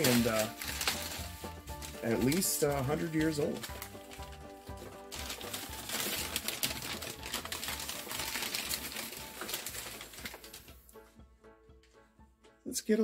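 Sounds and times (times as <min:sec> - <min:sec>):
paper wrap crinkling: 0:00.0 - 0:10.9.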